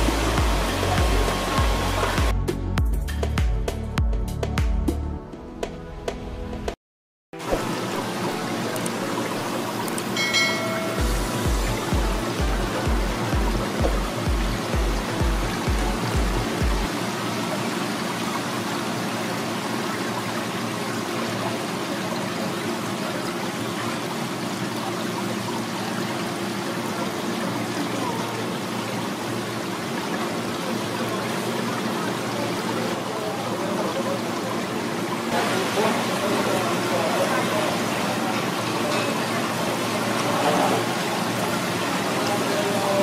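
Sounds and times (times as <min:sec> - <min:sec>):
bubbling water in a tank: 0:00.0 - 0:02.3, 0:07.4 - 0:43.0.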